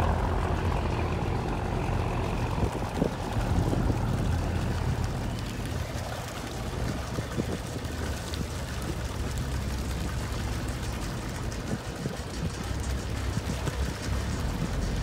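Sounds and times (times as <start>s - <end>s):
boat engine droning: 0.0s - 15.0s
water splashing past hull: 0.0s - 15.0s.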